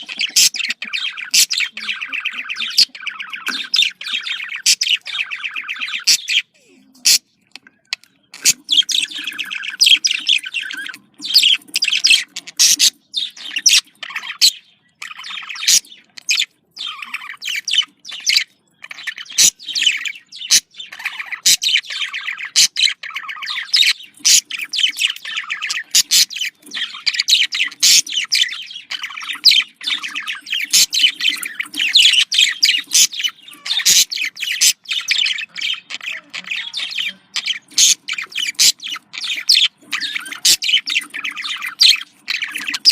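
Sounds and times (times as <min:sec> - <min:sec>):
budgerigars chattering and warbling: 0:00.0 - 0:42.9.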